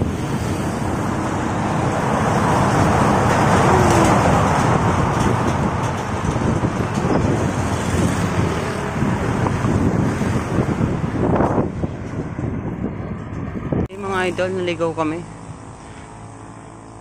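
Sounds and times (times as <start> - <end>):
road vehicle passing: 0.0 - 17.0
wind noise on microphone: 0.0 - 17.0.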